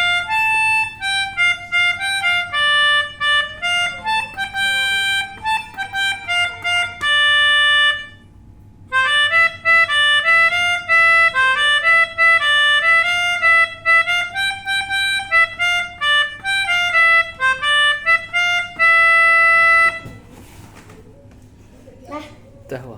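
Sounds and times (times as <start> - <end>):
melodica playing a tune: 0.0 - 20.3.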